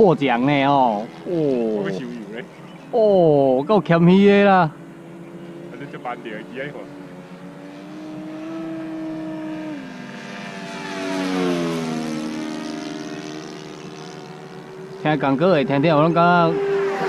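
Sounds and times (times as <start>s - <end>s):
model plane engine and propeller: 0.0s - 7.4s, 8.5s - 17.0s.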